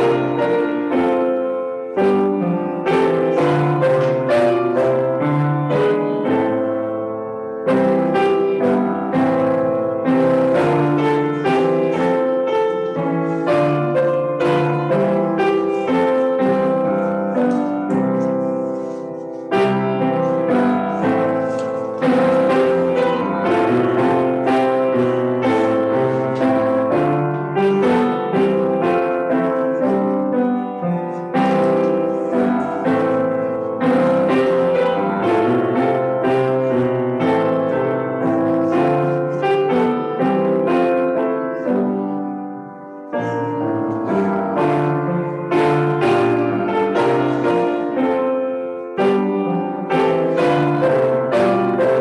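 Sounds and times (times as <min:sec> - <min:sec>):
piano playing: 0:00.0 - 0:52.0.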